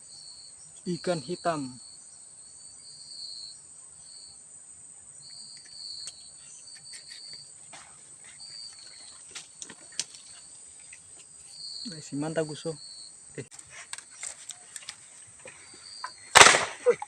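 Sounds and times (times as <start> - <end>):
high-pitched insect trill: 0.0 - 17.0
lower insect trill: 0.0 - 17.0.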